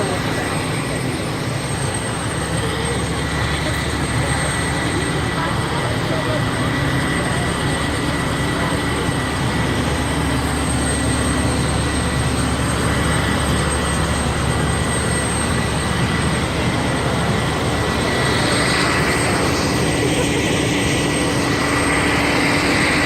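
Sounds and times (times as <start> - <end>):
helicopter engine and rotor: 0.0 - 23.0.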